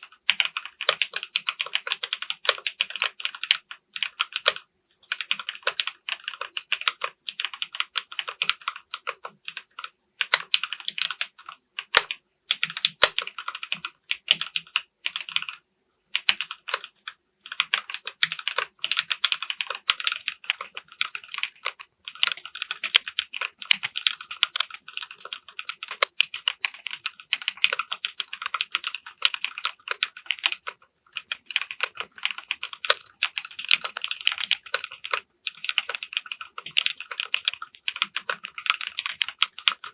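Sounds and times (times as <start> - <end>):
typing on mechanical keyboard: 0.0 - 15.6, 16.2 - 39.9.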